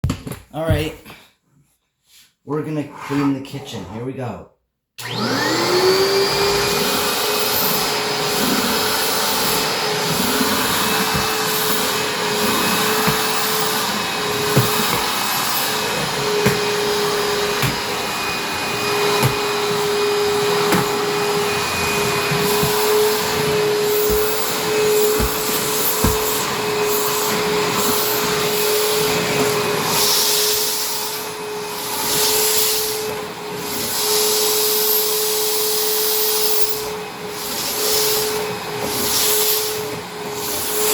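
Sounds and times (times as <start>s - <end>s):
vacuum cleaner running: 5.0s - 40.9s.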